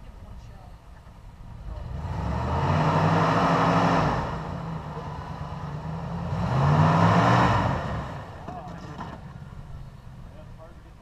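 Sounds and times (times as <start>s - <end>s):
engine revving under load: 1.5s - 10.3s.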